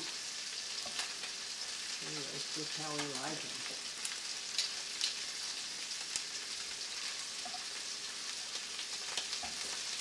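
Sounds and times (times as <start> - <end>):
prawns sizzling in oil: 0.0 - 10.0
sharp frying crackles: 0.0 - 10.0.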